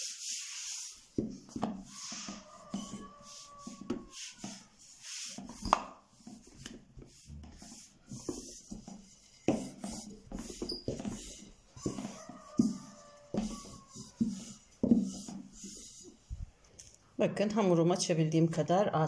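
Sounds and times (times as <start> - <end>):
rolling pin rolling over dough: 0.0 - 16.6.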